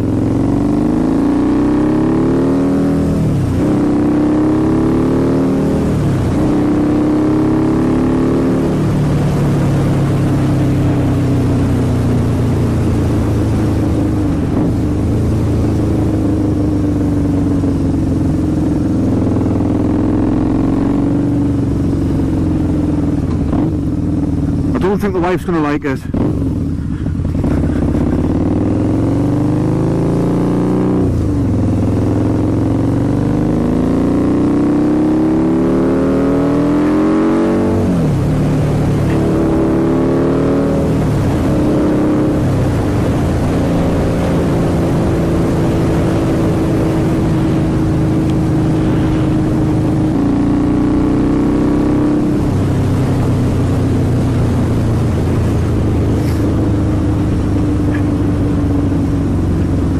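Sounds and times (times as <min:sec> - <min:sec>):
loud motorcycle engine accelerating: 0:00.0 - 0:59.9.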